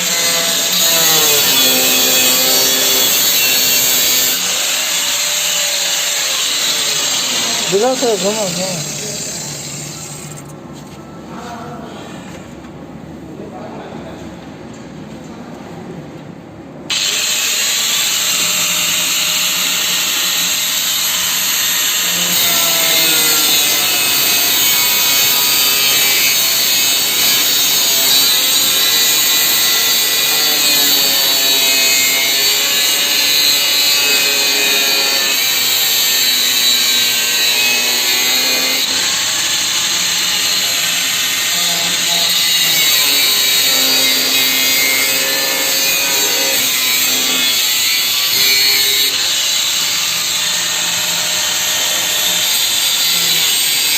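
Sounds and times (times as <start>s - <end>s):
angle grinder cutting: 0.0s - 10.5s, 16.9s - 53.9s.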